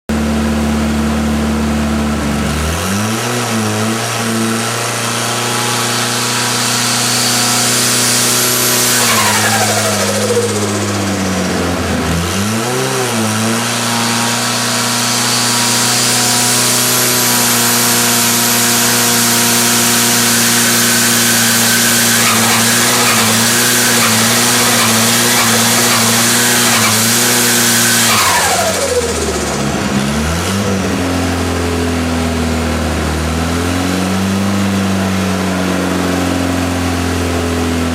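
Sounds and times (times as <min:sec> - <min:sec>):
car engine revving and surging: 0:00.2 - 0:37.9.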